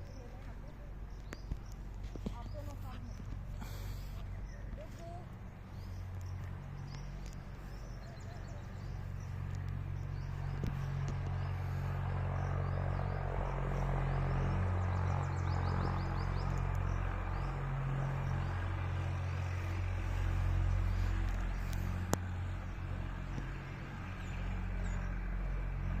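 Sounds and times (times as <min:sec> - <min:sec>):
low mechanical rumble: 0:00.0 - 0:26.0.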